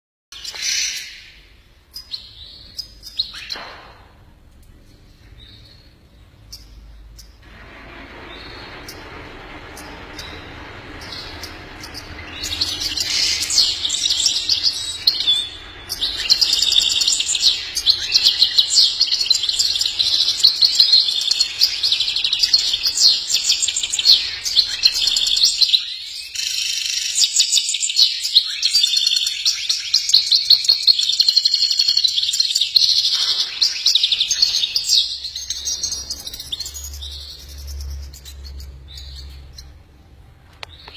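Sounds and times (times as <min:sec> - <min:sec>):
small birds chirping and twittering: 0:00.3 - 0:04.0, 0:04.6 - 0:40.9.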